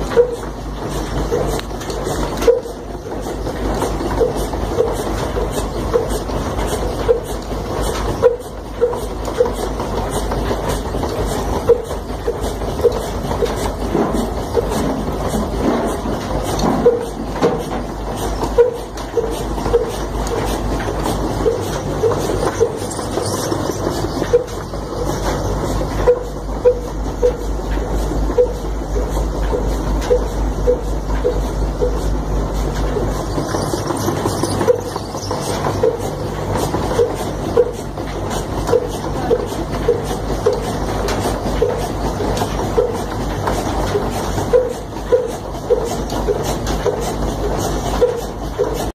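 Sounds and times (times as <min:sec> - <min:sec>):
stationary engine running slowly: 0:00.0 - 0:48.9.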